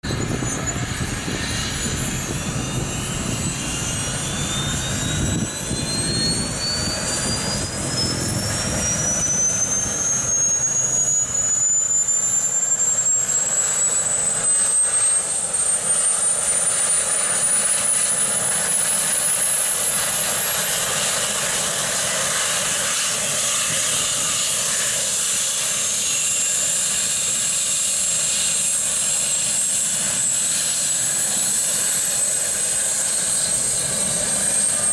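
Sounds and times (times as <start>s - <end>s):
second rising whine: 0.0s - 34.9s
turbine engine whine rising: 0.0s - 34.9s.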